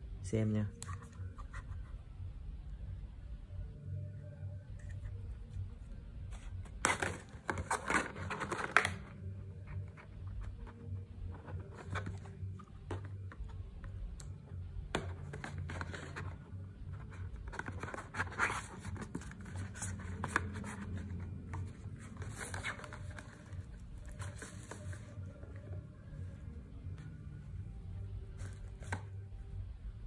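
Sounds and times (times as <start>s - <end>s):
plastic and cardboard handling: 4.8s - 29.3s.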